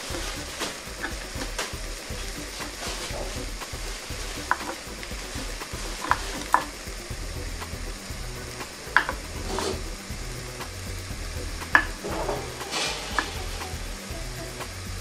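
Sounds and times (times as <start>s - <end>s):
meat sizzling in a grill press: 0.0s - 15.0s.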